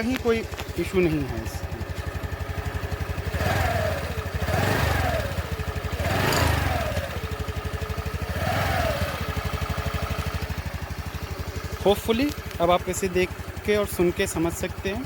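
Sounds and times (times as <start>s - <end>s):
scooter engine idling and revving: 0.0s - 15.0s.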